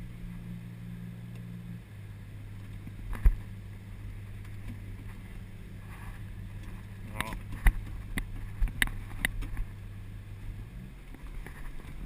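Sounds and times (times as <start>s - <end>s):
marine diesel engine running: 0.0s - 12.0s.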